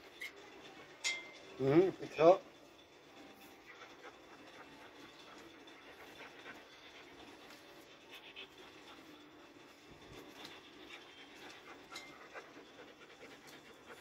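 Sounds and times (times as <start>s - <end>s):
dog panting: 1.8s - 14.0s.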